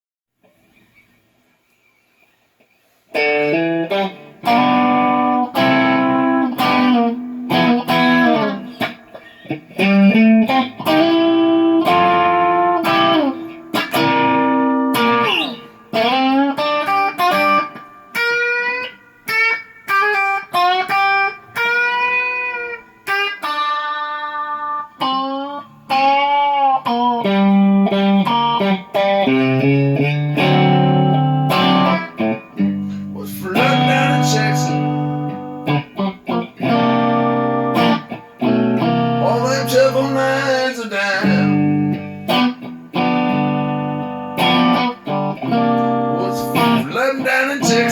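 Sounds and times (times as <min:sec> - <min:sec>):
electric guitar blues lead: 0:03.1 - 0:47.9.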